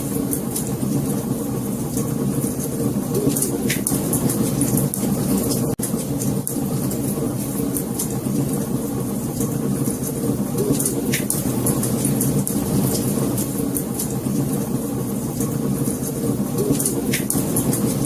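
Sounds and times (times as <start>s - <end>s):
wood fire roaring and crackling: 0.0s - 18.0s.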